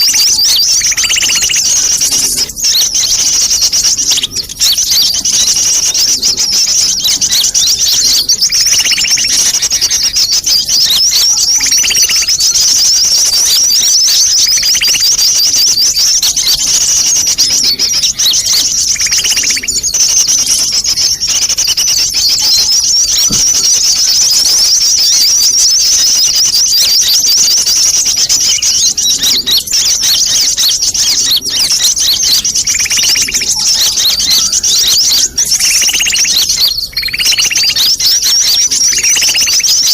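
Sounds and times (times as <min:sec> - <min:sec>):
birds twittering chorus: 0:00.0 - 0:39.9
lower fuller bird call: 0:00.0 - 0:39.9.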